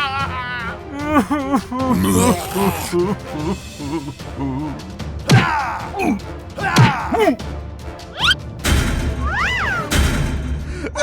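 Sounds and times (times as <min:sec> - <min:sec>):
background music: 0:00.0 - 0:10.9.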